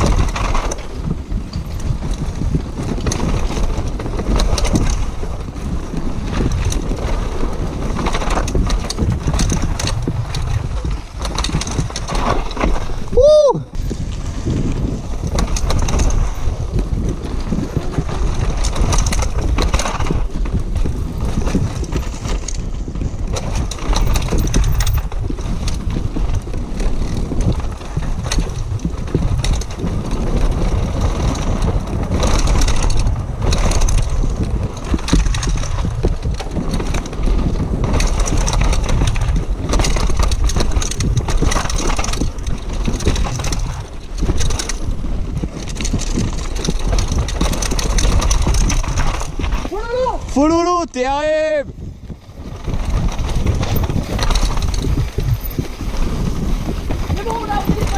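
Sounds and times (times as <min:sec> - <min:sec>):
bike clattering over bumps: 0:00.0 - 0:57.9
tyres crunching over dirt: 0:00.0 - 0:57.9
wind on microphone: 0:00.0 - 0:57.9.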